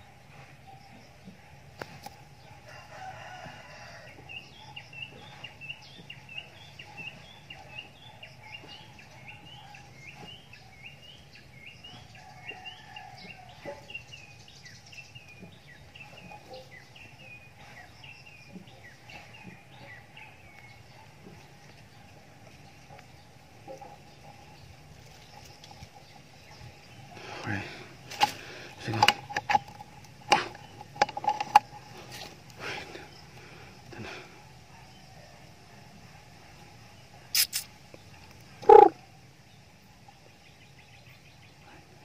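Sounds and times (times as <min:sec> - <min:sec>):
bird chirping: 0:04.1 - 0:35.1, 0:36.9 - 0:41.9.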